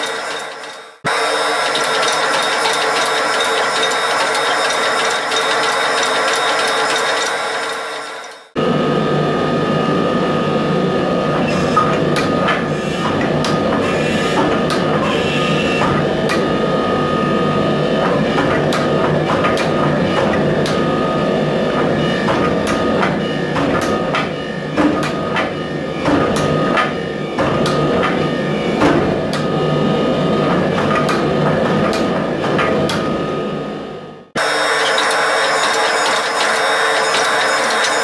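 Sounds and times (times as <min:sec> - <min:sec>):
hydraulic press hum and whine: 0:00.0 - 0:38.0.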